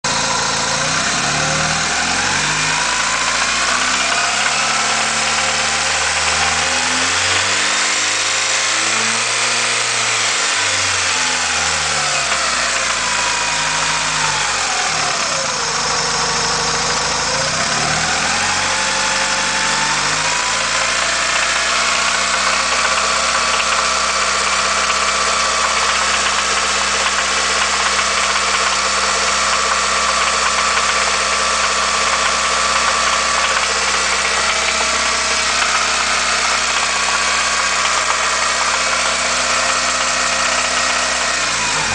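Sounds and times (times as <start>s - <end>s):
car engine revving: 0.0s - 41.9s
engine knocking: 0.0s - 41.9s.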